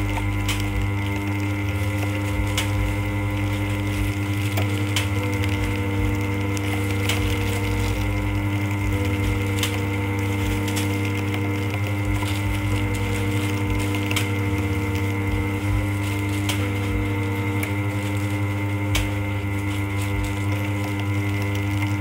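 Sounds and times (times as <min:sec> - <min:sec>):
band sealer motor hum: 0:00.0 - 0:22.0.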